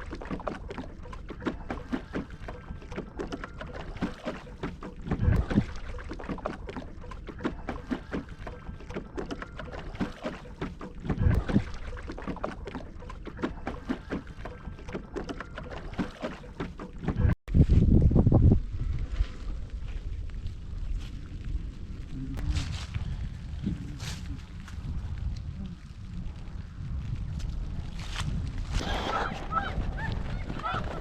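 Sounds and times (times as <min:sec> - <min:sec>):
low water rushes: 0:00.0 - 0:17.4, 0:18.1 - 0:31.0
water lapping against boat hull: 0:00.0 - 0:17.4, 0:18.8 - 0:31.0.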